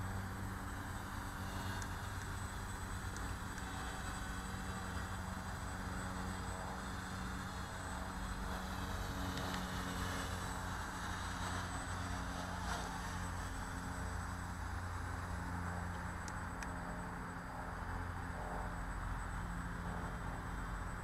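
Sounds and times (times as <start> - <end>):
quadcopter motors humming: 0.0 - 21.0.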